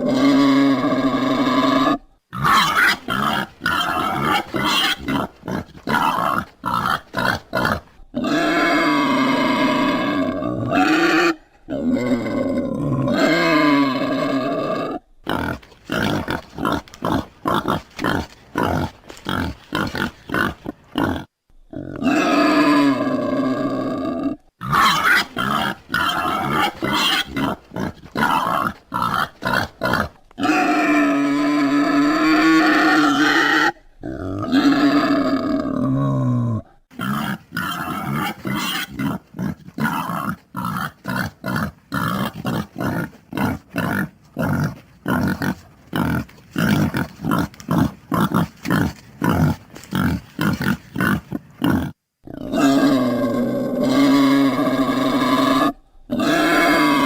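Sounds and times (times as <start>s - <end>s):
wild boar squealing: 0.0s - 36.1s, 37.0s - 57.0s
wild boar grunting: 0.0s - 57.0s.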